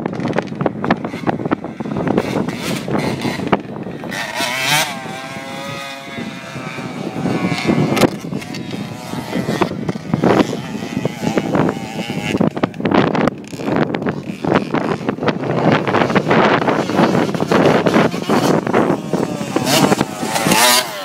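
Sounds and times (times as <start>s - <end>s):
dirt bike engine: 0.0s - 21.0s
wind noise on microphone: 0.0s - 21.0s.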